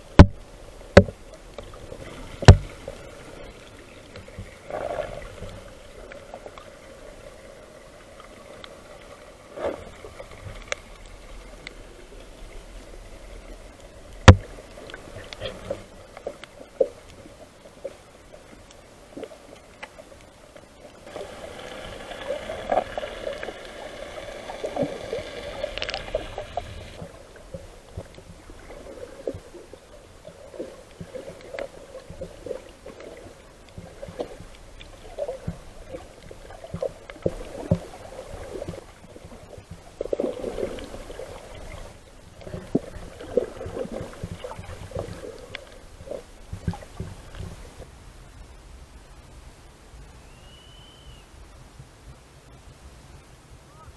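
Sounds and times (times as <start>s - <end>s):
underwater clicks and crackles: 0.0s - 48.0s
muffled underwater movement: 0.0s - 53.0s.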